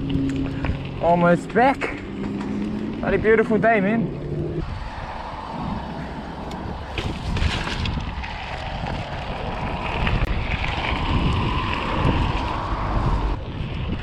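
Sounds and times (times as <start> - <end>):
bike tyres rumbling on trail: 0.0 - 14.0
wind buffeting microphone: 0.0 - 14.0.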